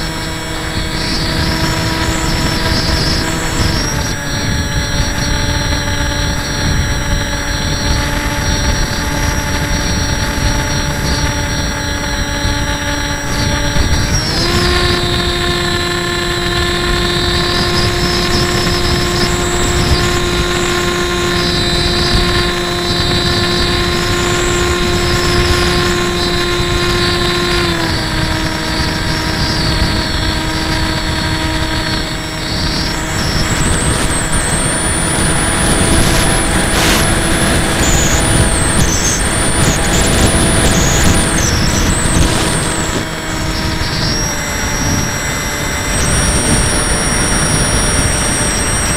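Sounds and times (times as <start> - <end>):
electric motor whine: 0.0 - 48.9
wind rushing on microphone: 0.0 - 48.9.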